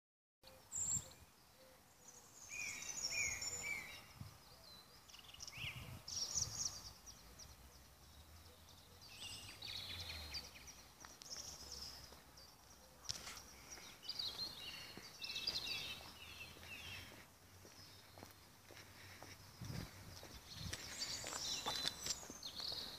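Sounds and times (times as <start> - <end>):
songbirds chirping: 0.4 - 22.9.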